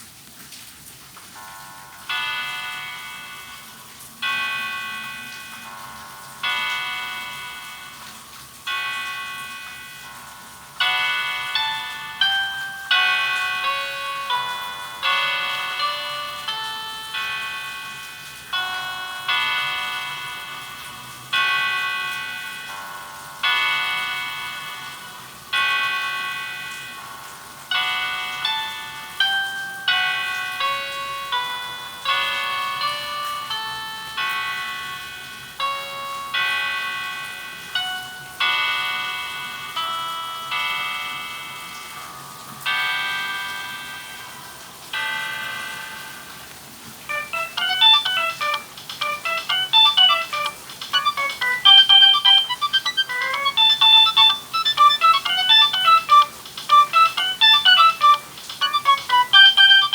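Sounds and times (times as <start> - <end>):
phone ringtone bell-like chords: 1.5 - 42.1, 42.7 - 59.9.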